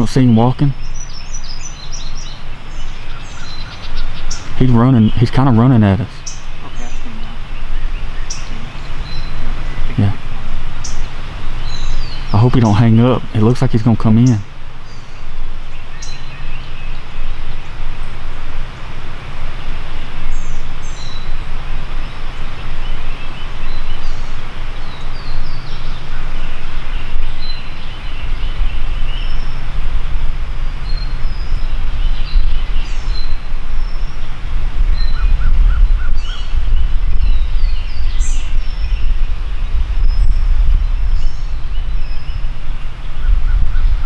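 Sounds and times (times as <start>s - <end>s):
songbirds chirping: 0.0s - 44.0s
steady low rumble: 0.0s - 44.0s.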